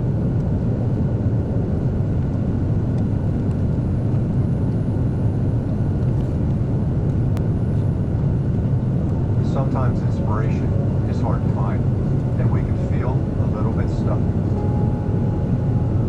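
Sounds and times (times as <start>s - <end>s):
aircraft cabin drone: 0.0s - 16.0s
faint high whine: 3.0s - 16.0s.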